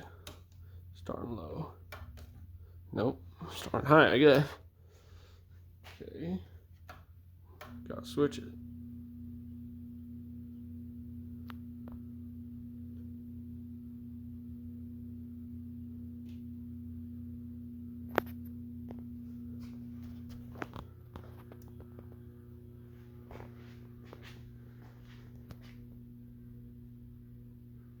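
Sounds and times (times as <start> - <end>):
ceiling fan motor humming: 0.0 - 28.0.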